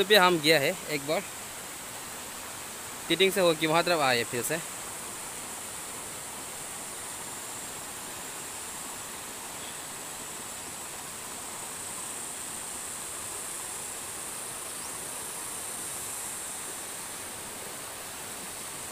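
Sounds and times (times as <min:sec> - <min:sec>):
river running over stones: 0:00.0 - 0:18.9.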